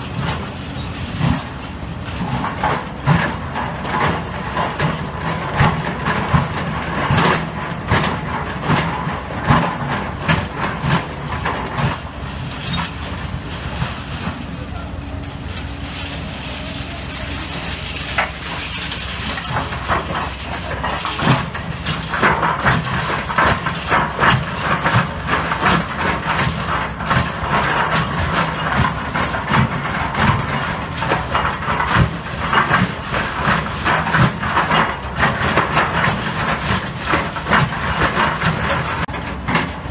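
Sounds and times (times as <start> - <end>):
bucket scraping concrete rubble: 0.0 - 39.9
excavator engine running: 0.0 - 39.9
metal clanks and cracks: 0.0 - 39.9.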